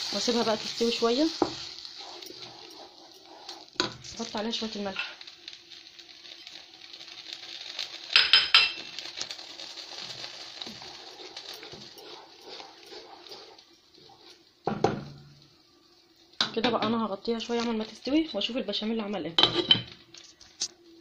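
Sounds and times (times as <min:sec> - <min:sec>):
wooden spatula stirring in pot: 0:00.0 - 0:19.1
steady sizzle: 0:00.0 - 0:21.0.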